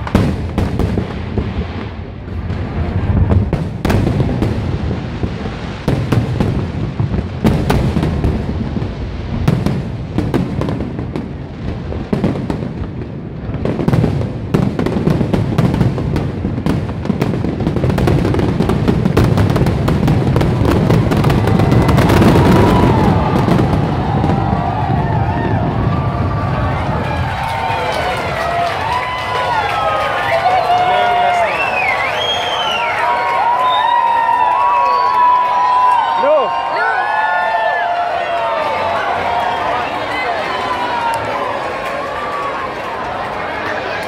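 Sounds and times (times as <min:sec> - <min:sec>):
fireworks booming: 0:00.0 - 0:44.0
fireworks crackling: 0:00.0 - 0:44.0.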